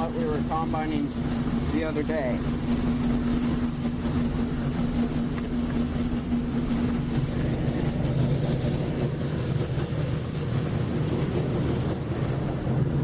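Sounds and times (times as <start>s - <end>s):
diesel engine running: 0.0s - 13.0s
steady hum: 0.0s - 13.0s.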